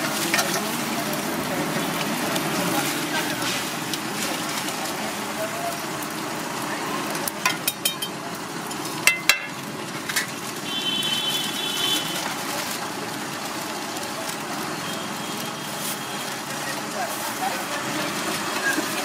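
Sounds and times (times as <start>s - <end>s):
omelette sizzling on griddle: 0.0s - 19.0s
street noise: 0.0s - 19.0s.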